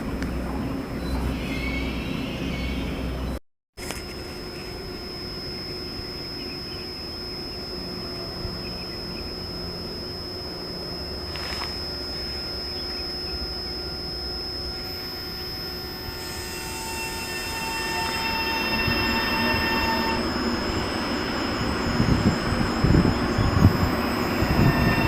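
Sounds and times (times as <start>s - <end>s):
thin high whine: 3.8s - 25.0s
faint steady tones: 4.0s - 25.0s
station background noise: 4.3s - 25.0s
train approaching: 4.3s - 25.0s.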